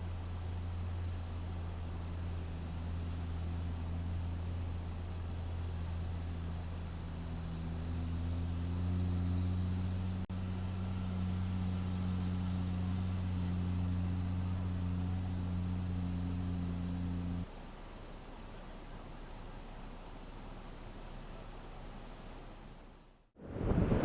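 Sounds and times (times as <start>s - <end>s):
vehicle engine running: 0.0s - 23.3s.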